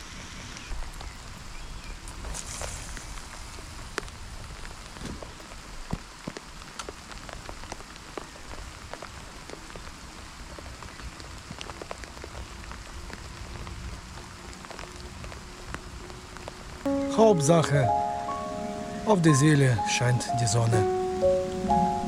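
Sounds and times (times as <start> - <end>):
steady rain falling: 0.4 - 22.0
raindrops ticking close by: 0.7 - 22.0.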